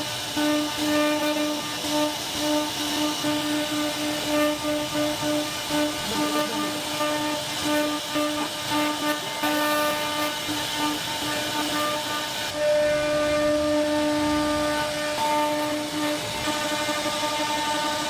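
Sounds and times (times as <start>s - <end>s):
hiss of wood cutting: 0.0s - 18.0s
router spindle whining: 0.0s - 18.0s.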